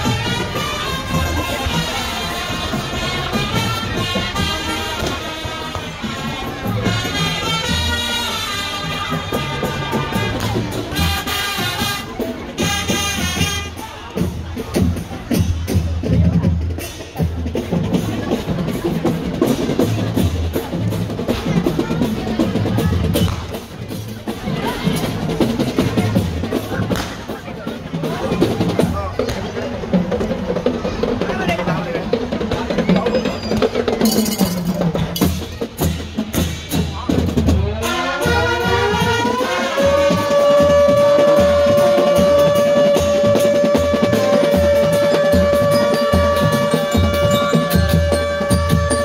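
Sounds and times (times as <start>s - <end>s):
drums beating: 0.0s - 49.0s
marching band playing: 0.0s - 49.0s.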